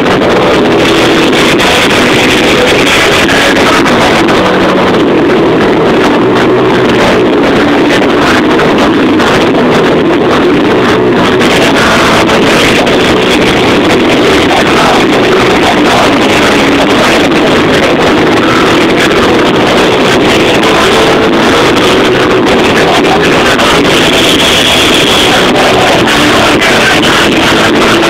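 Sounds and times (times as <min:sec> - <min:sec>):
live band playing distorted: 0:00.0 - 0:28.0.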